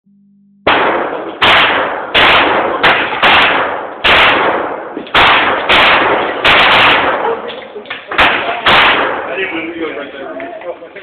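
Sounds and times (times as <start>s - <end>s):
pistol shots echoing: 0.6s - 9.6s.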